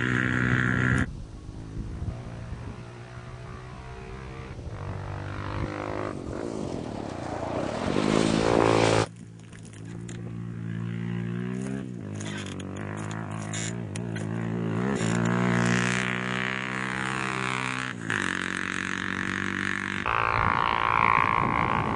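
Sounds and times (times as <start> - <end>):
motorbike engine accelerating: 0.0 - 21.9
motorbike engine droning: 0.0 - 21.9.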